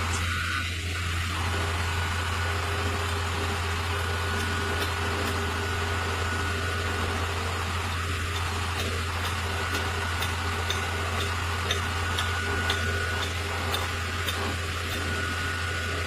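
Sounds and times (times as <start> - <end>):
thin steady whine: 0.0 - 16.0
truck engine humming: 0.0 - 16.0.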